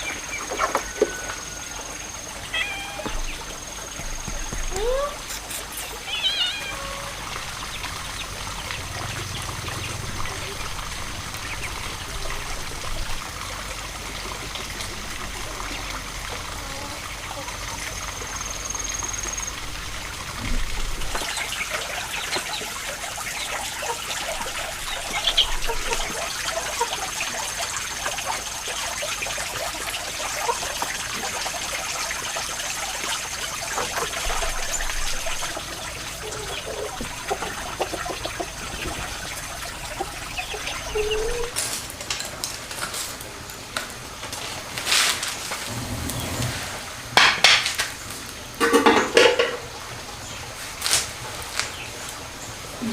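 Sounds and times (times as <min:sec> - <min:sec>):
water trickling and splashing: 0:00.0 - 0:52.9.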